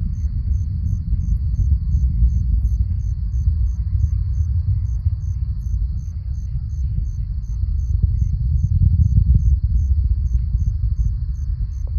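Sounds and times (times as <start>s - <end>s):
crickets chirping: 0.0s - 11.9s
high insect drone: 0.0s - 11.9s
rocket engines rumbling: 0.0s - 11.9s.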